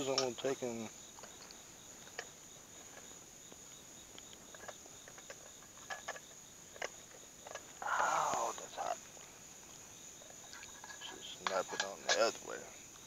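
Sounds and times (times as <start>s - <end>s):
crickets chirping: 0.0s - 13.0s
faint clicks: 1.2s - 13.0s.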